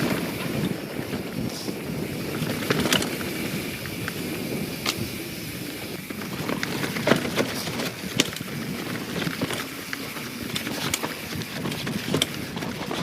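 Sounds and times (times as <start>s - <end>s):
bike knocks and rattles: 0.0s - 13.0s
bike tyres on dirt: 0.0s - 13.0s.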